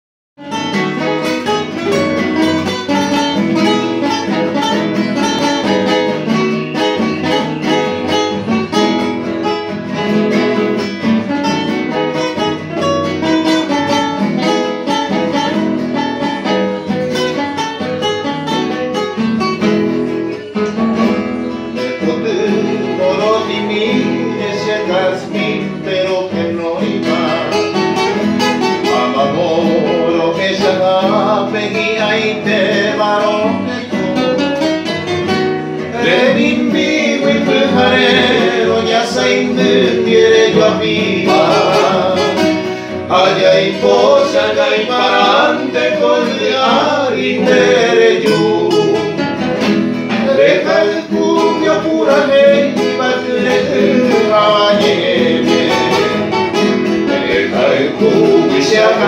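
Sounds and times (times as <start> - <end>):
acoustic guitars playing: 0.4 - 59.0.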